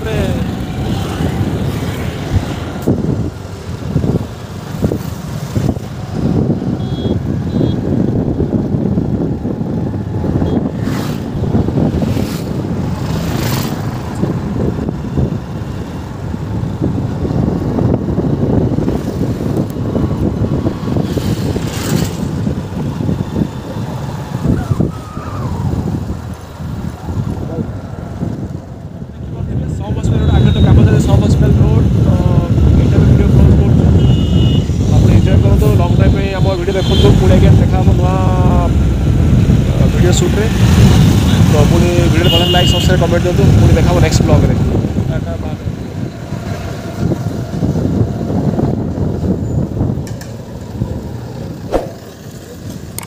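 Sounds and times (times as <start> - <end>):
motorbike engine and wind rumble: 0.0 - 53.0.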